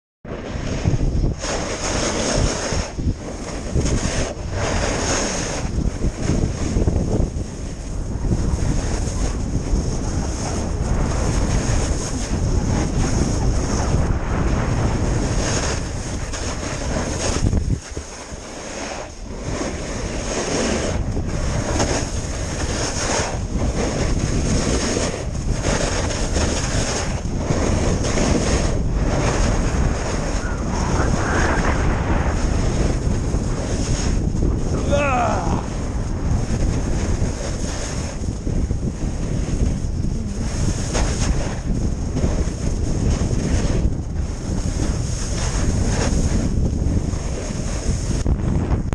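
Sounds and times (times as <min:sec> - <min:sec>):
wind buffeting microphone: 0:00.2 - 0:48.9
skis scraping on snow: 0:00.3 - 0:48.3.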